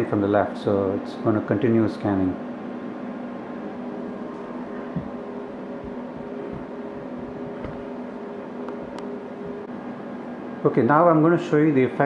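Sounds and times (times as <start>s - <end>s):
test equipment and fans humming: 0.0s - 12.0s.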